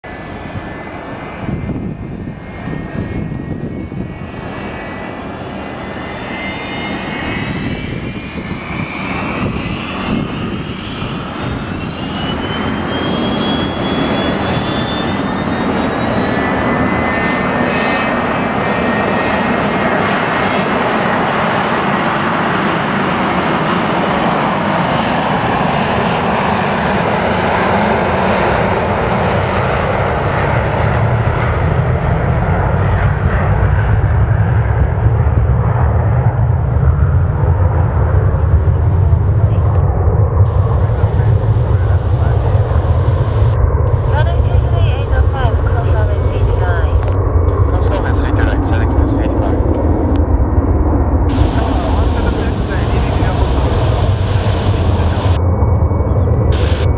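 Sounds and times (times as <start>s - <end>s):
jet engines spooling up: 0.1s - 56.9s.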